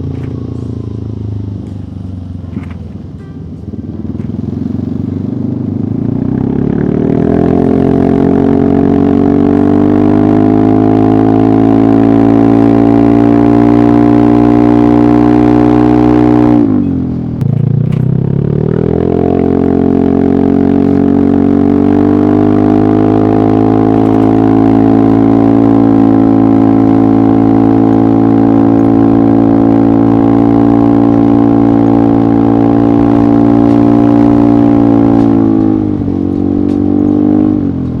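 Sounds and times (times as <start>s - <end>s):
scooter engine running: 0.0s - 38.0s.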